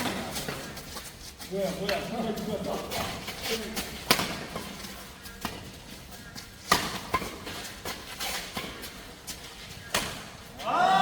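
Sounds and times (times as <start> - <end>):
rackets hitting shuttlecock: 1.9 - 10.8.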